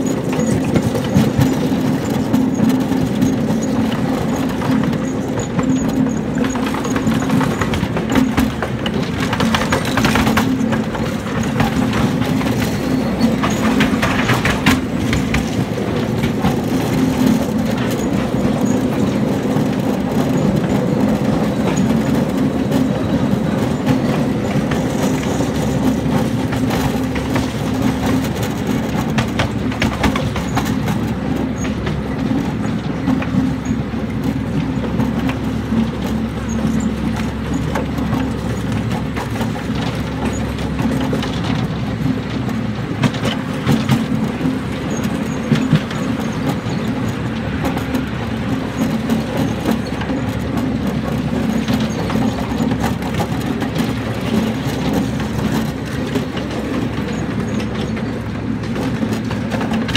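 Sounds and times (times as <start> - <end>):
train cars rumbling: 0.0 - 59.9
wheels clicking over rail joints: 0.0 - 59.9.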